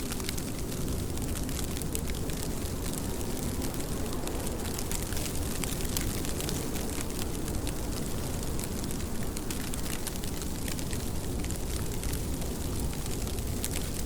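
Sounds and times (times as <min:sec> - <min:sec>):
rain hiss: 0:00.0 - 0:14.0
raindrops ticking on a surface: 0:00.0 - 0:14.0.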